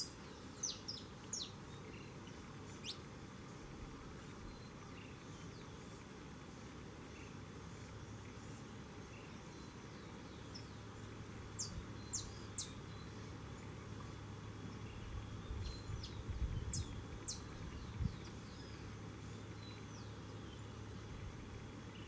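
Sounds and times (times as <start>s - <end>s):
songbird chip calls: 0.0s - 3.0s, 7.1s - 22.0s.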